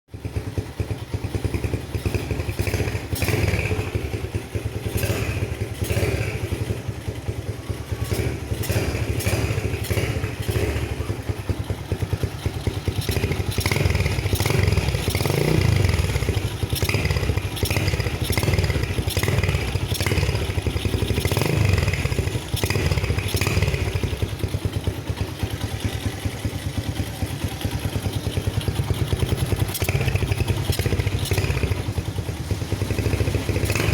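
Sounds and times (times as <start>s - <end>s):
motorcycle engine open exhaust: 0.1s - 33.9s
exhaust crackles: 1.5s - 33.9s.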